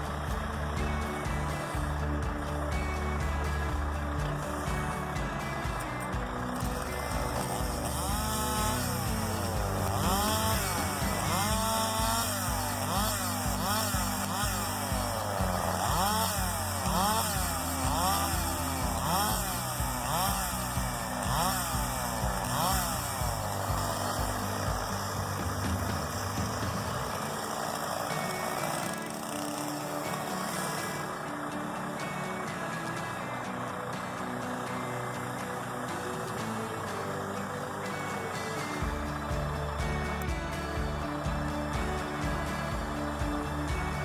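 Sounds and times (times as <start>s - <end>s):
background music with steady beat: 0.0s - 44.0s
saw motor revving: 0.0s - 44.0s.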